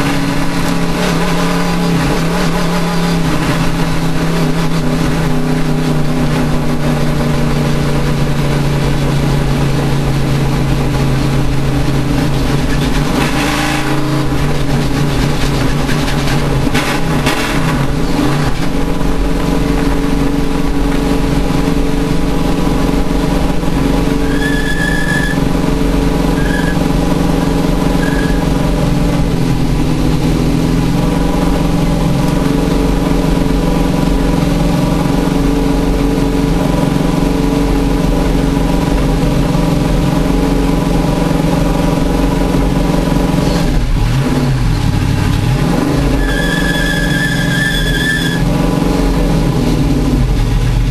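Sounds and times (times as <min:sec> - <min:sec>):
race vehicle engine running: 0:00.0 - 0:50.9.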